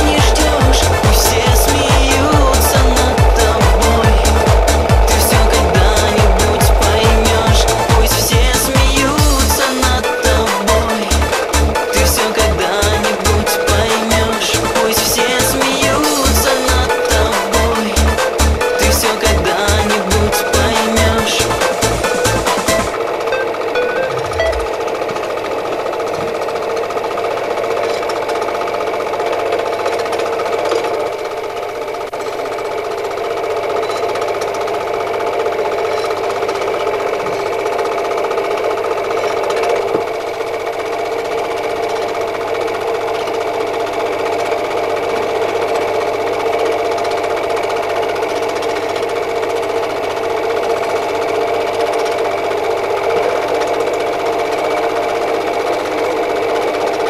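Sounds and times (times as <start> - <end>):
film projector clattering: 0.0 - 24.0, 24.7 - 57.0.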